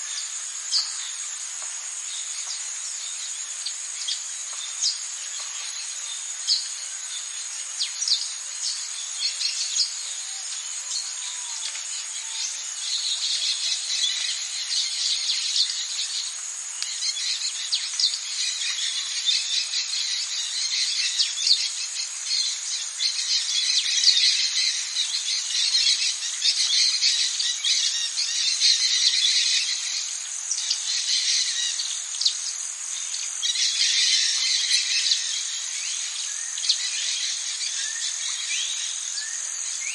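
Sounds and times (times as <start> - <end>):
fast insect chirping: 0.0 - 39.9
insects droning: 0.0 - 39.9.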